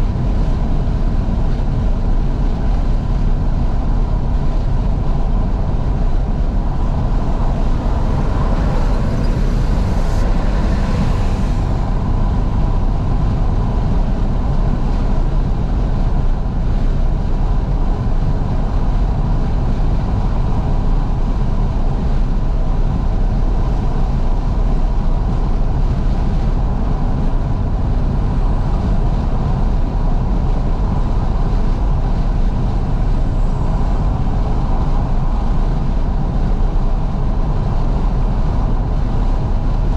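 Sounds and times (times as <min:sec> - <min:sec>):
car engine running: 0:00.0 - 0:39.9
wind and road rumble: 0:00.0 - 0:39.9.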